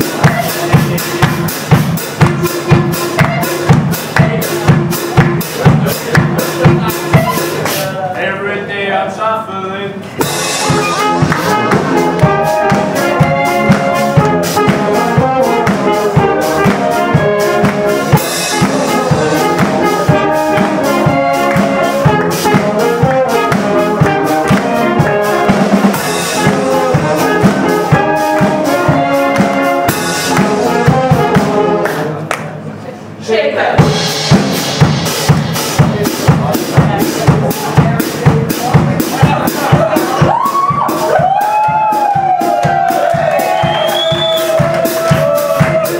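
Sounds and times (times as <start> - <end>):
brass band playing dance tune: 0.0 - 8.0, 10.2 - 32.3, 33.3 - 45.9
drum kit beat: 0.0 - 8.1, 10.2 - 32.3, 33.6 - 45.9.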